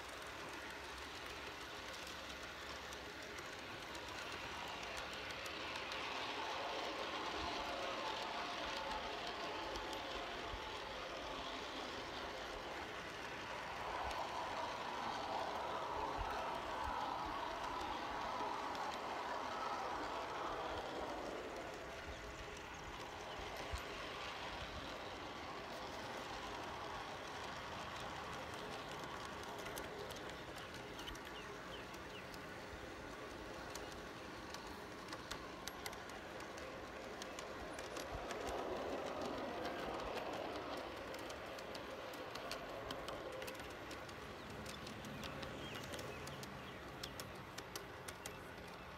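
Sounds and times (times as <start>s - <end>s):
faint rapid ticking: 0.0s - 48.9s
light clicks of track: 0.0s - 48.9s
model train wheels rattling on rail: 0.0s - 48.9s
model train whine: 0.0s - 48.9s.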